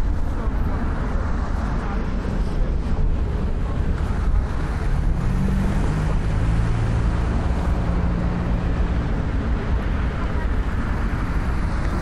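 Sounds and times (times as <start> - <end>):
traffic rumble: 0.0 - 12.0
vehicle engine hum: 0.0 - 12.0.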